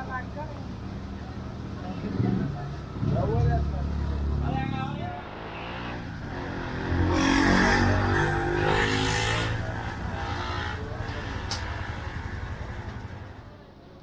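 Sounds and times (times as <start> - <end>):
vehicle engine passing by: 1.8 - 13.6.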